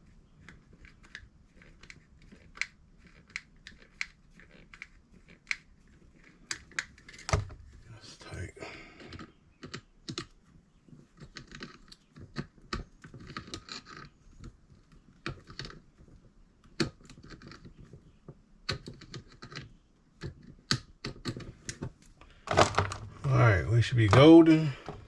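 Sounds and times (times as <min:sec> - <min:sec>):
clicks and scraping of wiring work: 0:00.0 - 0:07.9, 0:09.0 - 0:25.0.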